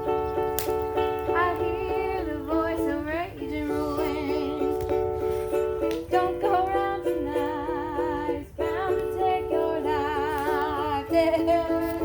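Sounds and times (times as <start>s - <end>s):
plucked ukulele: 0.0s - 12.0s.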